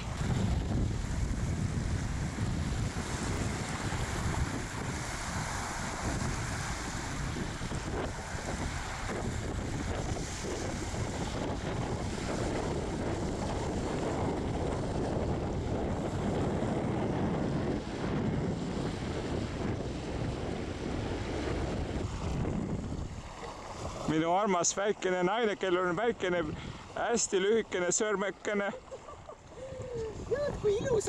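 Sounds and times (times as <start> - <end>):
sea waves: 0.0 - 31.0
wind buffeting microphone: 0.0 - 31.0.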